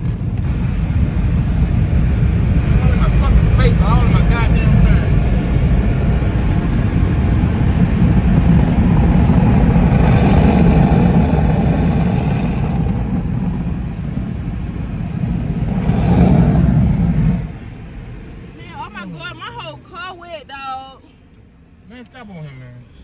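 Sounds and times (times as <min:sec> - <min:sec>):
car wash rushing rumble and hiss: 0:00.0 - 0:23.0.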